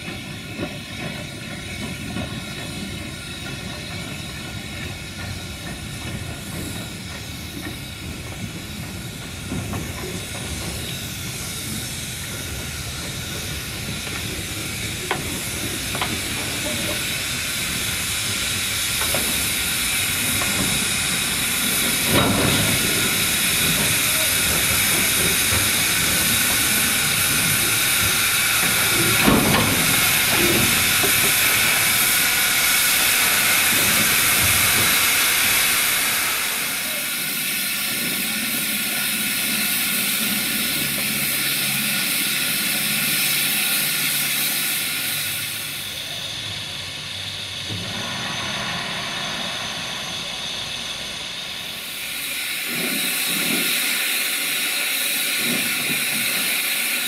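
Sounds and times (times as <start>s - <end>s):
steam locomotive hissing: 0.0s - 57.0s.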